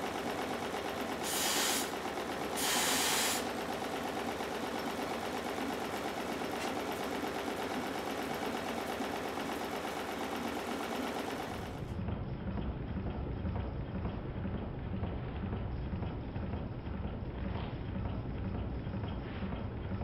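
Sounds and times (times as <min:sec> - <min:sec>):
steam engine running: 0:00.0 - 0:20.0.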